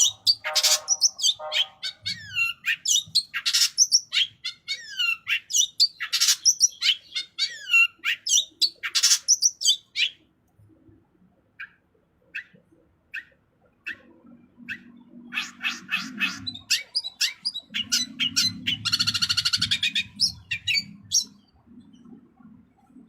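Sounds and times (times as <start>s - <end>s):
shrike singing varied song: 0.0s - 10.3s, 11.6s - 22.1s.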